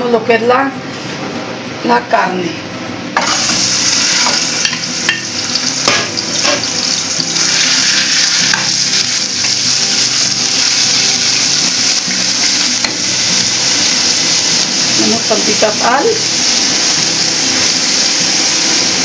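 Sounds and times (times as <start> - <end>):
meat sizzling in a frying pan: 3.2 - 19.0.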